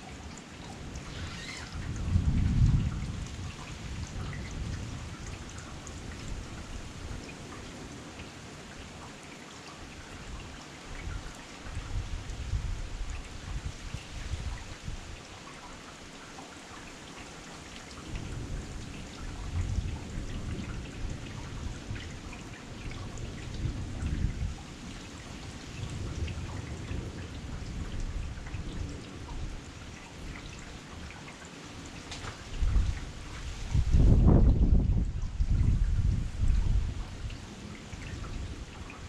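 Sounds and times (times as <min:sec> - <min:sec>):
heavy rain: 0:00.0 - 0:39.0
raindrops striking close by: 0:00.0 - 0:39.0.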